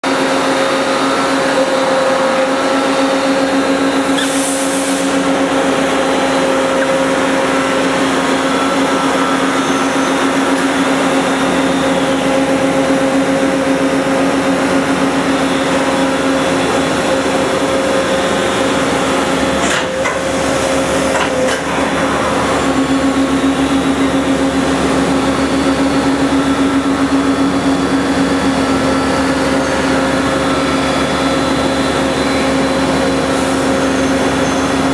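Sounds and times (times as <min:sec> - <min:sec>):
machine hum with whine: 0:00.0 - 0:34.9.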